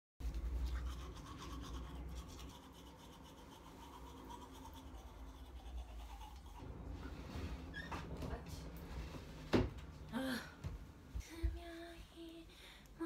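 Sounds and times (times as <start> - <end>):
low room rumble: 0.2 - 13.0.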